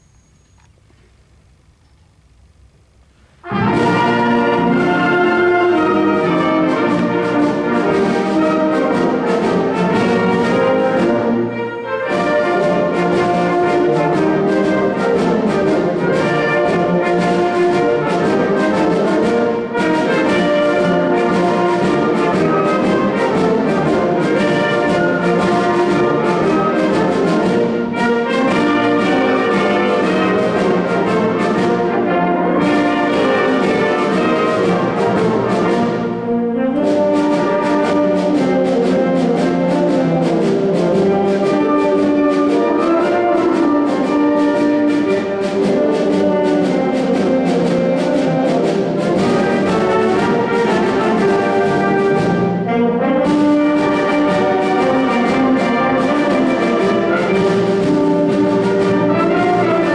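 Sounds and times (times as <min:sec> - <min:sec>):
wind band playing: 0:00.0 - 0:59.9.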